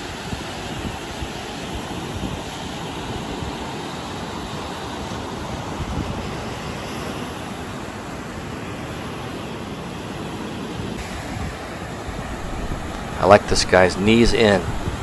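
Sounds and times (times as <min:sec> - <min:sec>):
wind rumbling on microphone: 0:00.0 - 0:09.4, 0:10.0 - 0:15.0
ocean surf washing in: 0:00.0 - 0:15.0.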